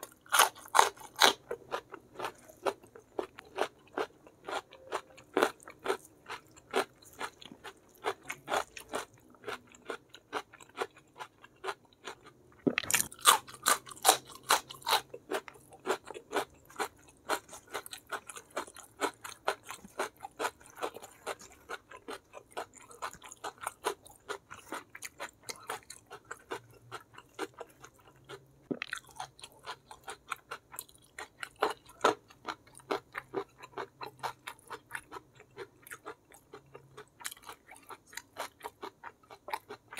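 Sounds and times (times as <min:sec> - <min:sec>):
close-up chewing and crunching: 0:00.0 - 0:39.9.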